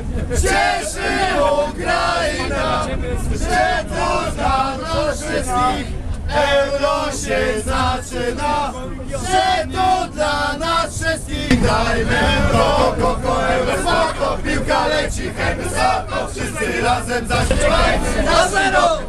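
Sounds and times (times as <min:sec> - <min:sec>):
crowd chanting and singing: 0:00.0 - 0:19.0
tram rumbling: 0:00.0 - 0:19.0.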